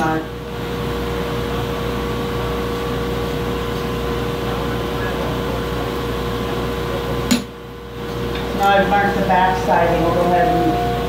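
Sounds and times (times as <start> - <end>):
mechanical hum and rush: 0.0 - 11.0.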